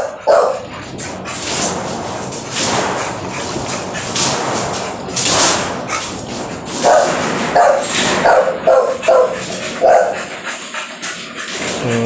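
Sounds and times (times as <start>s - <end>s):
dog barking: 0.0s - 10.6s
washing machine rushing noise: 0.0s - 12.0s.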